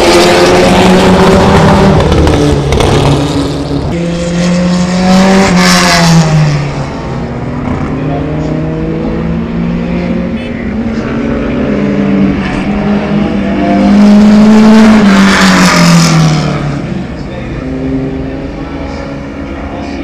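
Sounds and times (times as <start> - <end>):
racing car engines at full throttle: 0.0 - 20.0.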